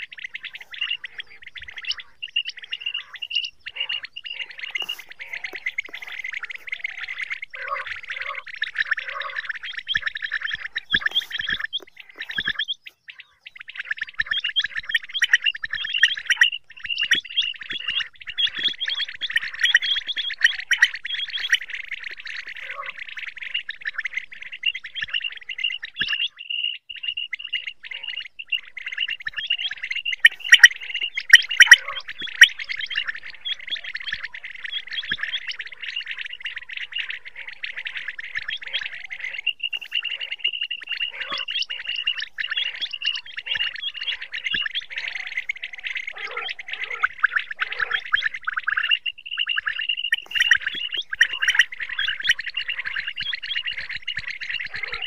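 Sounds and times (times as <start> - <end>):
quail calling: 0.0 - 55.0.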